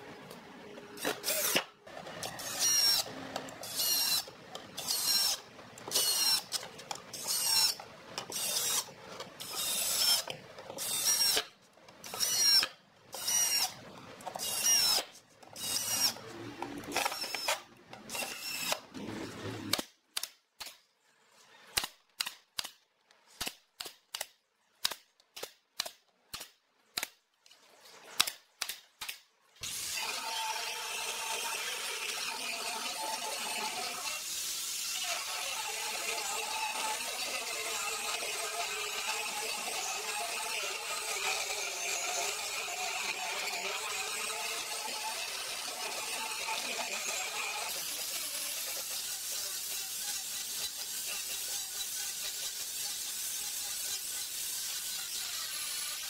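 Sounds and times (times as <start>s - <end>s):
cordless drill driving screws: 1.0s - 19.9s, 29.6s - 56.0s.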